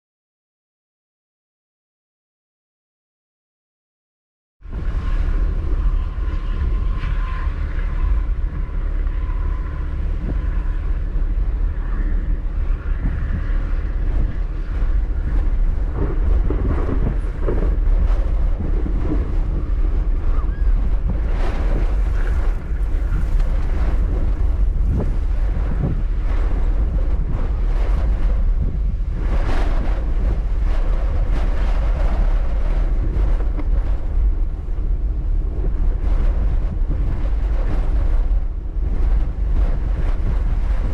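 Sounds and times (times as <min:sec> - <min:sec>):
wind buffeting microphone: 0:04.6 - 0:40.9.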